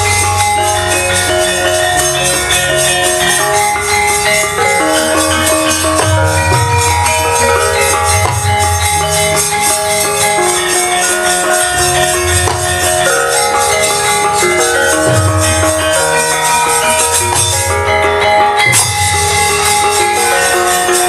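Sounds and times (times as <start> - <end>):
metallophones ringing melody: 0.0 - 21.0
rapid metallic jingling: 0.0 - 21.0.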